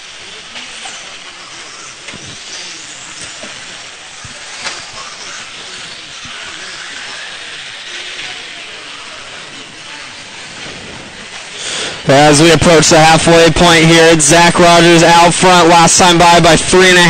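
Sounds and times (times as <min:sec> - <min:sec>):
rc car motors and tyres hissing: 0:00.0 - 0:17.0.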